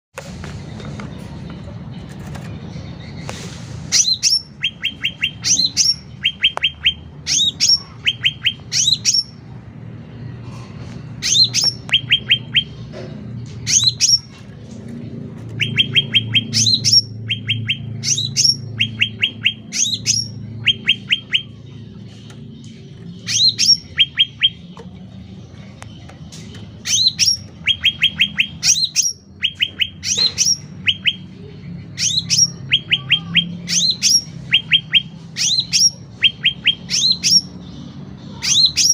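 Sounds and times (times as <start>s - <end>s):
bulbul singing: 2.6s - 10.3s, 11.2s - 14.5s, 15.2s - 38.9s.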